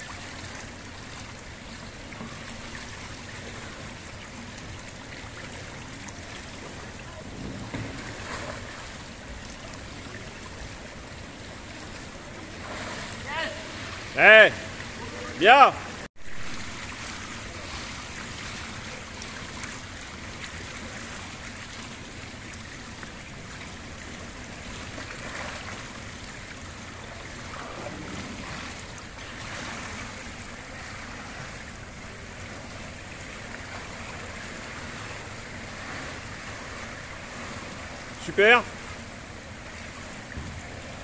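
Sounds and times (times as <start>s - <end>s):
kayak and paddle splashing: 0.0s - 41.0s
water noise echoing in pool hall: 0.0s - 41.0s.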